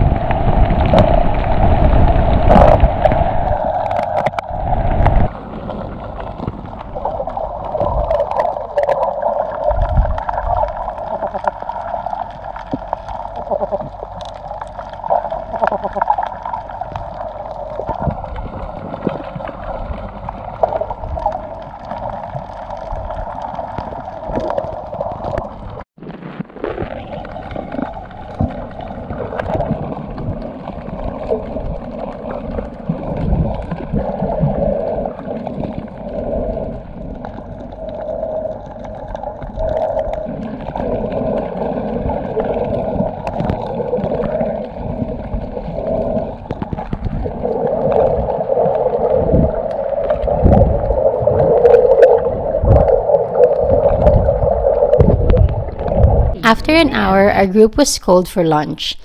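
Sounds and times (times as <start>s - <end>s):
muffled underwater water noise: 0.0s - 59.0s
water gurgling: 0.0s - 59.0s.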